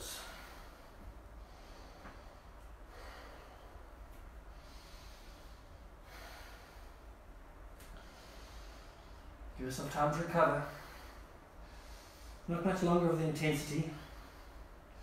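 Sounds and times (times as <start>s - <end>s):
man breathing slowly: 0.0s - 9.6s, 10.5s - 12.5s, 13.9s - 15.0s.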